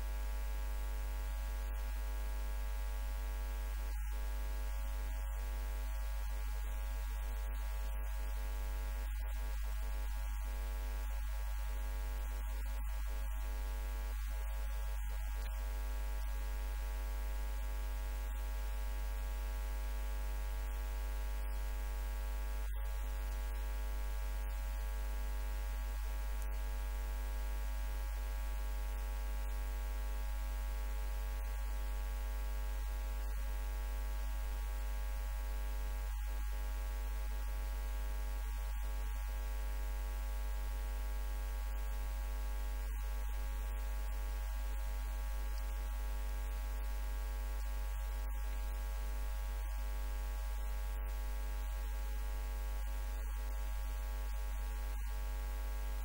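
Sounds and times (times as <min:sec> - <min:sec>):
electrical mains hum: 0:00.0 - 0:56.0.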